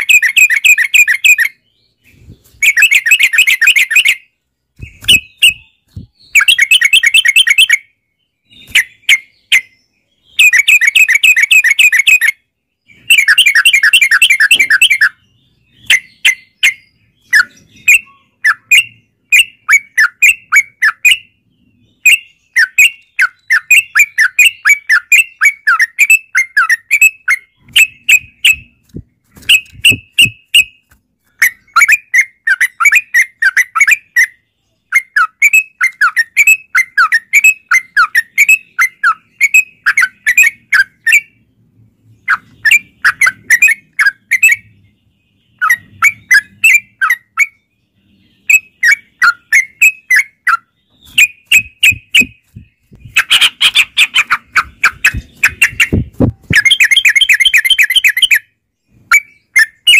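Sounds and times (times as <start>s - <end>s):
bulbuls singing: 0.0s - 59.9s.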